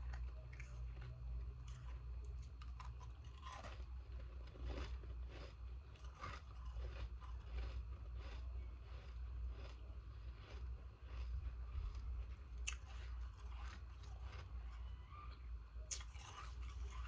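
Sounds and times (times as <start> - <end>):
ice being chewed: 0.0 - 17.0
low hum: 0.0 - 17.0.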